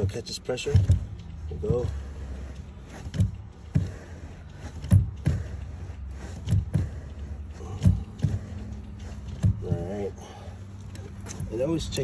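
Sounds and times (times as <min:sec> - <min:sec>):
brake pedal knocking: 0:00.0 - 0:12.0.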